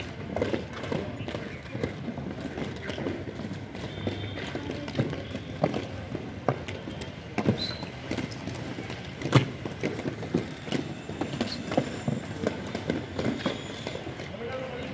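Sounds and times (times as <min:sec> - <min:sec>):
inline skate wheels rolling: 0:00.0 - 0:14.9.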